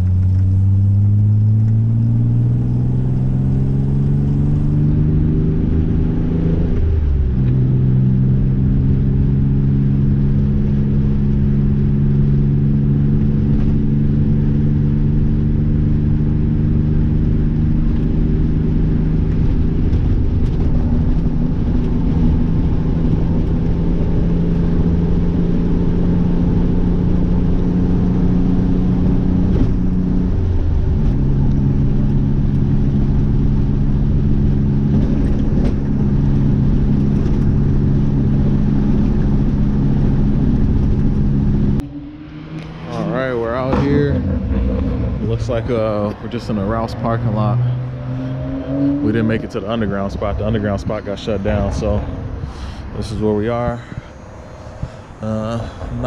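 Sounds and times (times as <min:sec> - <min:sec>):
car engine running: 0:00.0 - 0:56.0
road noise: 0:00.0 - 0:56.0.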